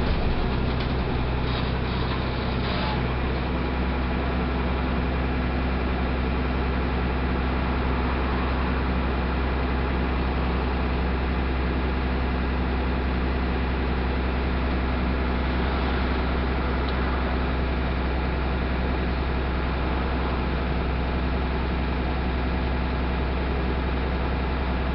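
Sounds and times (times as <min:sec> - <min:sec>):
bus diesel engine running: 0:00.0 - 0:24.9.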